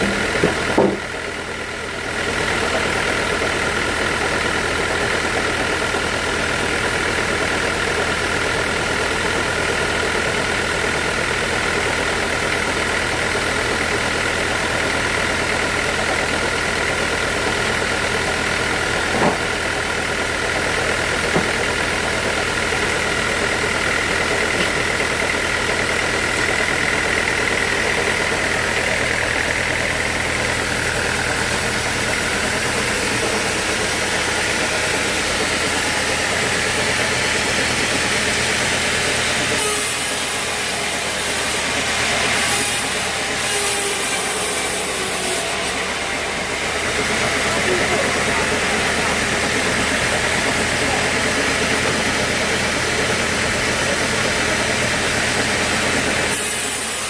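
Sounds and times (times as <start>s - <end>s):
sawmill saw whining: 0.0s - 57.0s.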